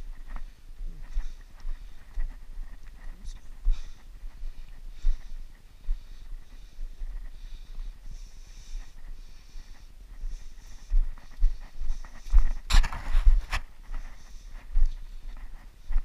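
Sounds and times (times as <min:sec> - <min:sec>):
footsteps on dirt and rock: 0:00.0 - 0:16.0
hiker breathing: 0:00.0 - 0:16.0.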